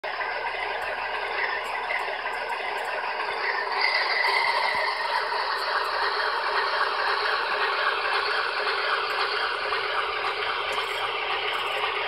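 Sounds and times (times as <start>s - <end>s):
diesel engine sound through small speakers: 0.0s - 12.0s.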